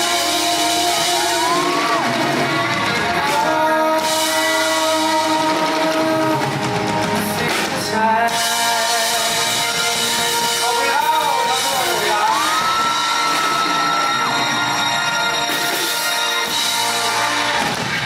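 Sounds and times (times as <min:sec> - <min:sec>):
live band music with guitar: 0:00.0 - 0:18.0.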